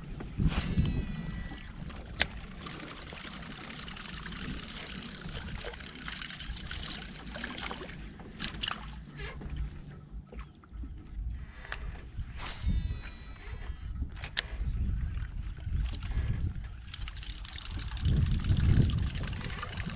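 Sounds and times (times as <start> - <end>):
lure churning water: 0.0 - 19.9.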